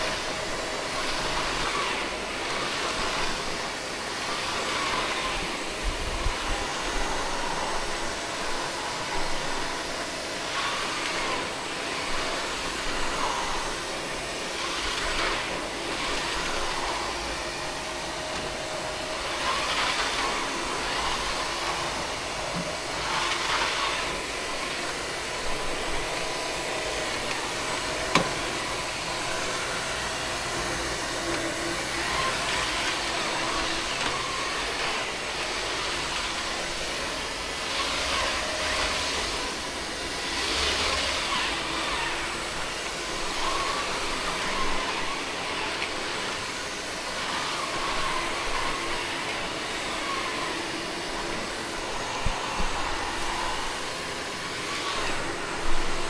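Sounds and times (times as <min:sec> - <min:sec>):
floor washer motor hum: 0:00.0 - 0:56.0.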